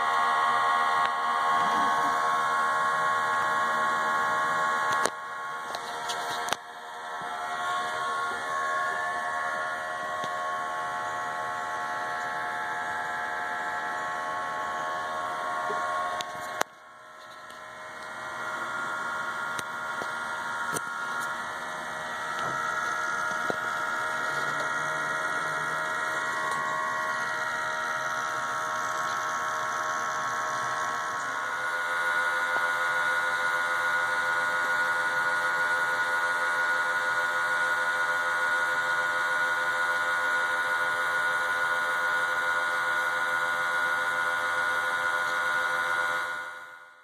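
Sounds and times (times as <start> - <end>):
air pump buzzing hum: 0.0 - 47.0.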